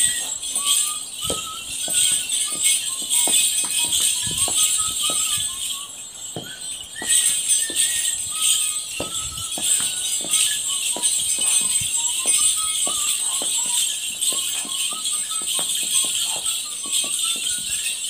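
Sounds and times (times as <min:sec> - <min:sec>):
bell pads jingling: 0:00.0 - 0:18.0
feet striking paving stones: 0:00.0 - 0:18.0.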